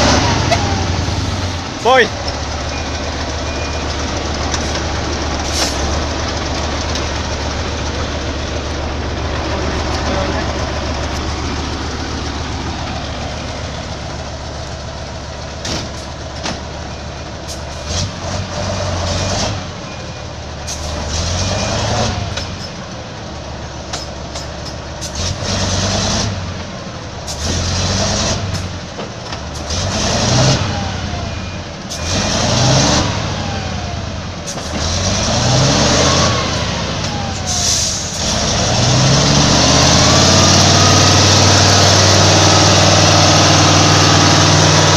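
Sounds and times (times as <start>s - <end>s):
truck engine revving: 0.0s - 22.7s, 24.9s - 26.6s, 27.2s - 44.9s.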